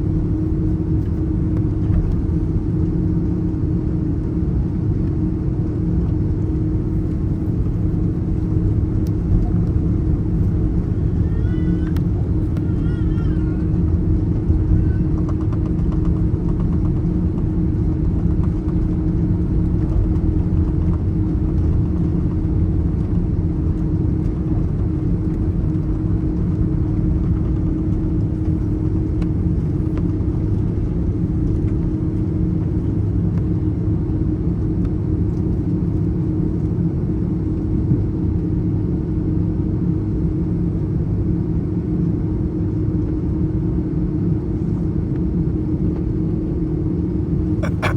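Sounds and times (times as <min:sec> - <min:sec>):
jet engines rumbling: 0:00.0 - 0:36.6, 0:43.7 - 0:47.9
steady cabin hum: 0:00.0 - 0:37.9, 0:43.9 - 0:47.9.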